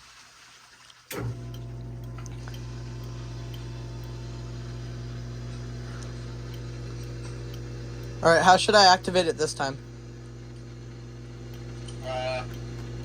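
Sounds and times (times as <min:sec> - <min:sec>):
buzzy electrical hum: 0:01.1 - 0:13.0.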